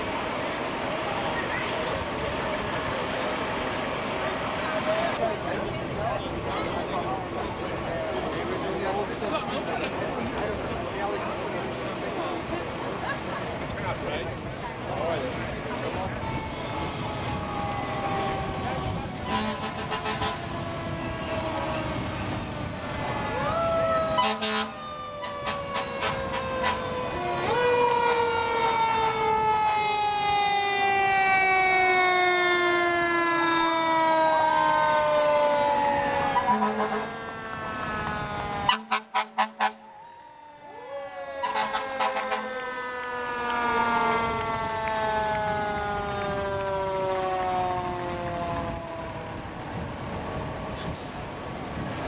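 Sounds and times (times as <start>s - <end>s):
fire engine sirens wailing: 0.0s - 52.0s.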